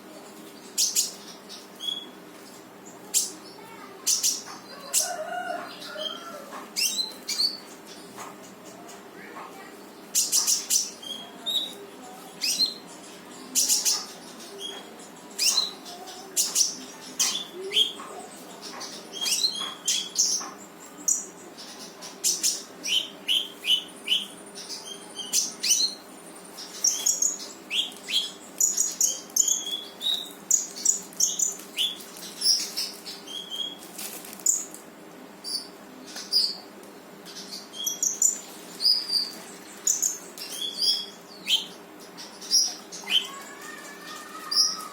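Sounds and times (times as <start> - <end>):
songbird chirping: 0.0 - 34.8, 35.4 - 44.9.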